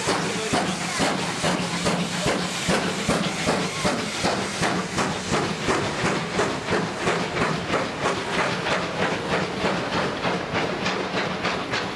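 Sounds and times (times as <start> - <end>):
steam hissing: 0.0 - 11.9
steam locomotive chuffing: 0.0 - 11.9.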